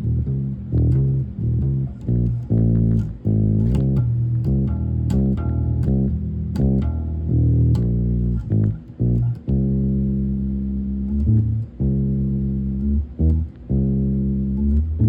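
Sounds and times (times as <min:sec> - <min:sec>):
bass guitar plucked notes: 0:00.0 - 0:15.0.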